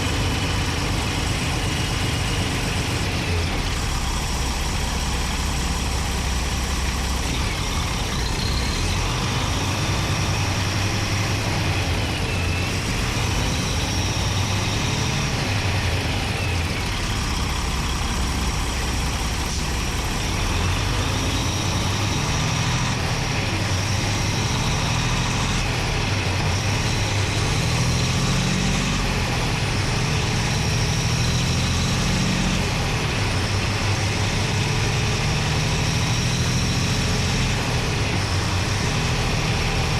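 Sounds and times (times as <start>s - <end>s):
diesel engine drone: 0.0s - 39.9s
high engine whine: 0.0s - 39.9s.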